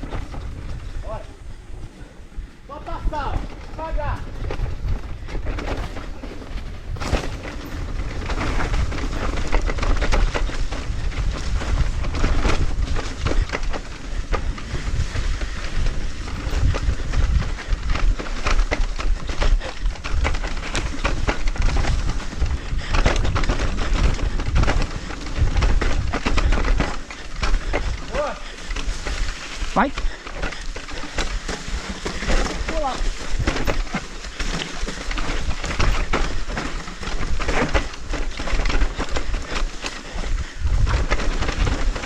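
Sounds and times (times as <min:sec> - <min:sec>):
bike clicks and rattles: 0:00.0 - 0:42.0
bike tyres crunching on trail: 0:00.0 - 0:42.0.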